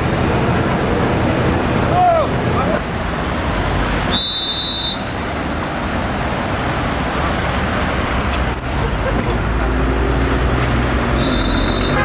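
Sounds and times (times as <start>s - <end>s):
vehicles rushing past: 0.0s - 12.0s.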